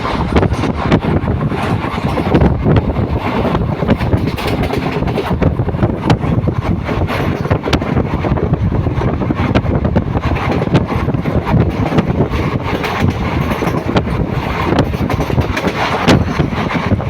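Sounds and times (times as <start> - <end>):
rattles and clicks: 0.0 - 8.4, 9.4 - 17.0
train rumble: 0.0 - 17.0
wind buffeting microphone: 0.0 - 17.0.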